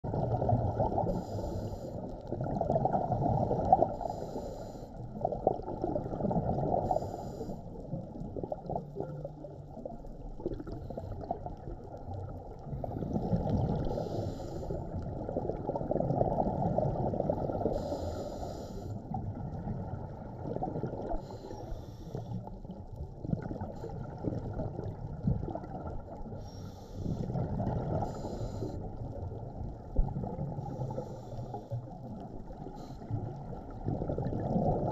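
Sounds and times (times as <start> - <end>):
underwater air bubbling: 0.0 - 34.9.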